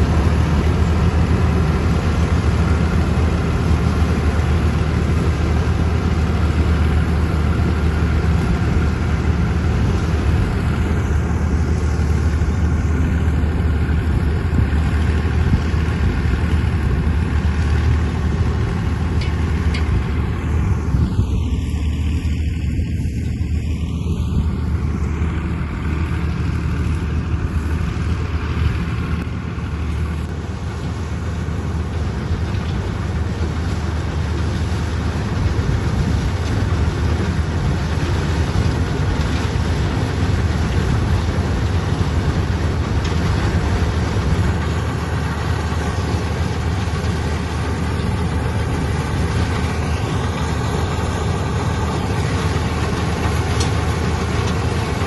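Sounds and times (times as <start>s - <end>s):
combine harvester engine rumbling: 0.0s - 55.0s.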